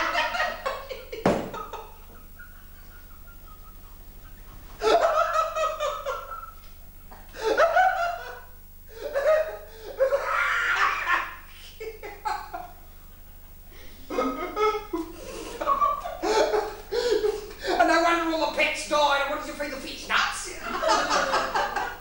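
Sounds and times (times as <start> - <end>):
man laughing heartily: 0.0 - 17.9, 20.6 - 22.0.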